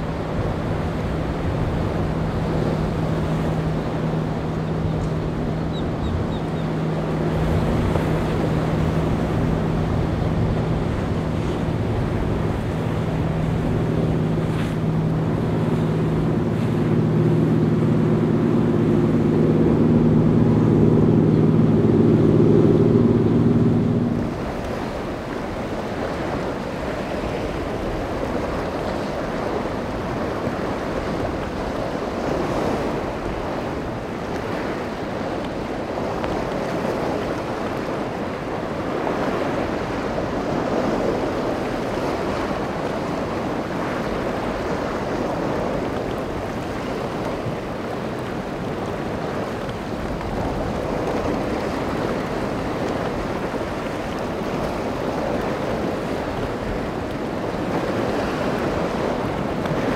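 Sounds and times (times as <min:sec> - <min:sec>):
rough surf rushing: 0:00.0 - 0:59.9
wind noise on microphone: 0:00.0 - 0:59.9.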